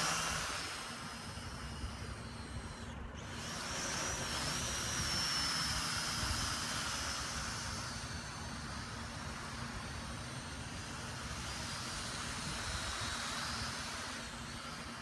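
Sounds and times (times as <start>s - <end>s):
toy drone propellers whining: 0.0s - 15.0s.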